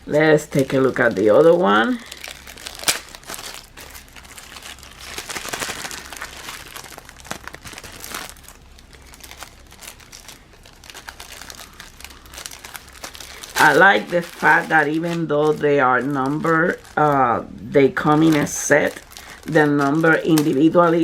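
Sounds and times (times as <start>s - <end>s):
plastic packaging crinkling: 0.1s - 21.0s.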